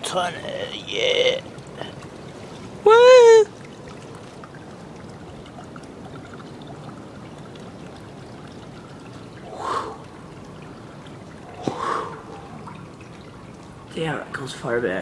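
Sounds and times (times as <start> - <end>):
water rushing: 0.0 - 15.0
water trickling: 0.0 - 15.0.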